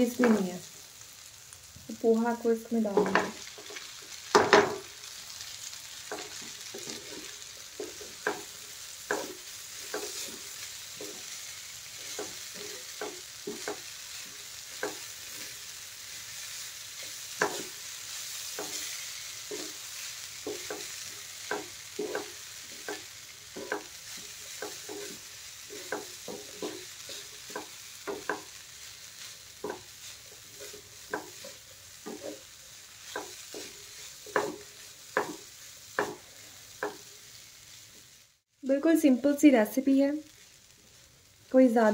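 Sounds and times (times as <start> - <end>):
food sizzling: 0.0 - 41.9
spatula scraping a frying pan: 3.0 - 37.9.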